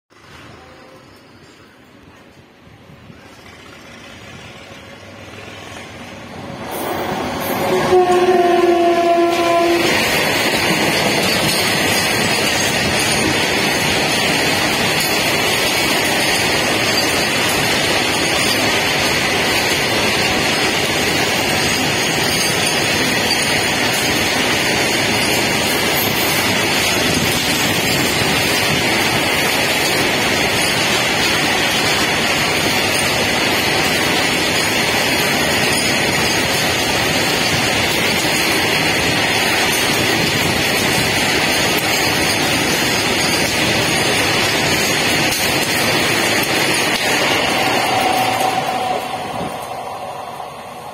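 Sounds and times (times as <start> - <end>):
train wheels rushing on rail: 0.1 - 50.9.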